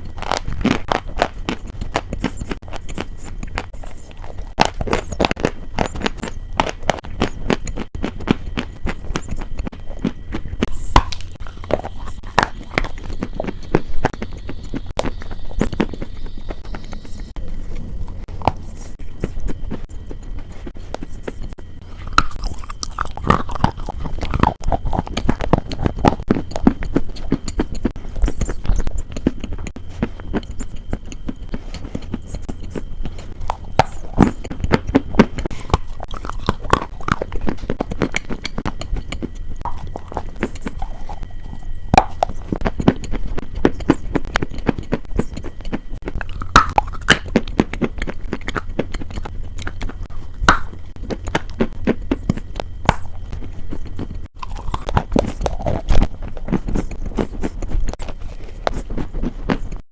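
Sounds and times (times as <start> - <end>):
chewing crisp food: 0.0 - 59.8.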